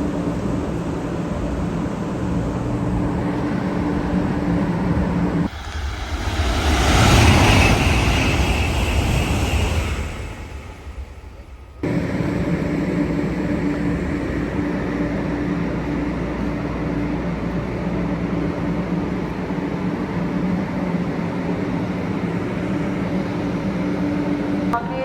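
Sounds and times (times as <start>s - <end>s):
high-speed train rumbling: 0.0s - 25.0s.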